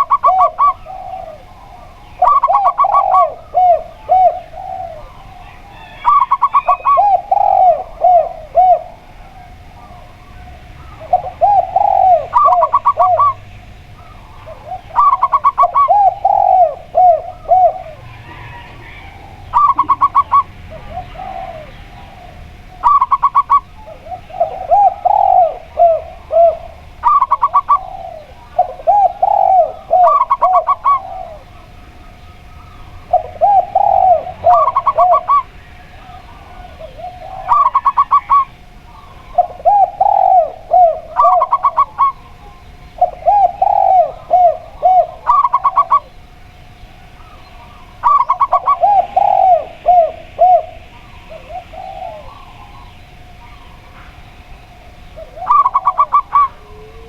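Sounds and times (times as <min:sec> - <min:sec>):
doves cooing: 0:00.0 - 0:57.0
faint steady hum: 0:00.0 - 0:57.0.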